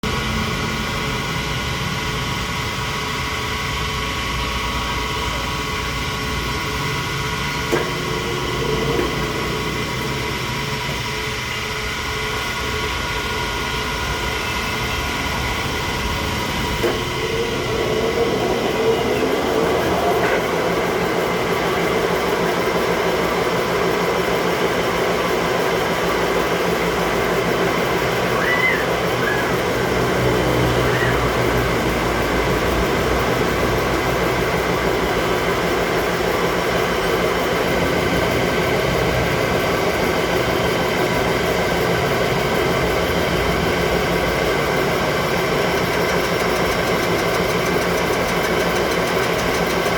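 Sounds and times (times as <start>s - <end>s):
mechanical running noise: 0.0s - 49.9s
thin constant whine tones: 0.1s - 49.9s.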